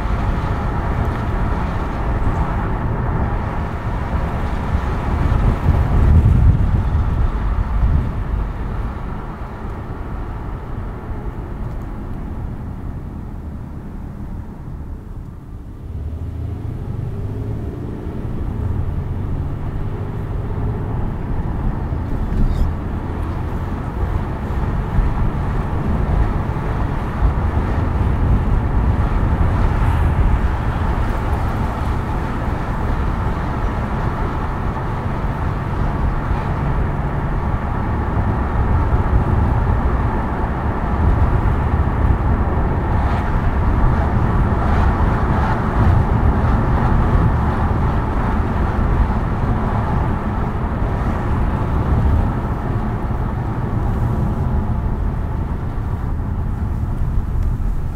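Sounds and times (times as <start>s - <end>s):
car engine hum: 0.0s - 57.9s
tyre and road noise: 0.0s - 57.9s.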